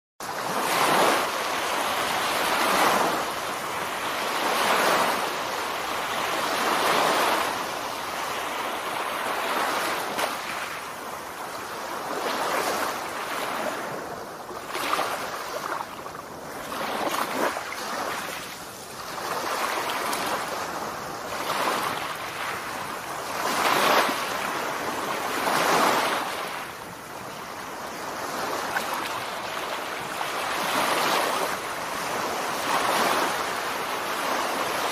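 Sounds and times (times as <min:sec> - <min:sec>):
small surf waves on sand: 0:00.2 - 0:34.9.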